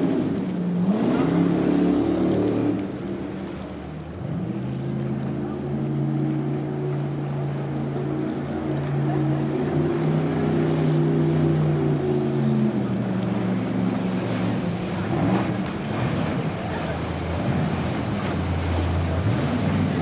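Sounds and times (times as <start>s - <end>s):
boat engine running hard: 0.0s - 20.0s
water rushing and spray: 0.0s - 20.0s.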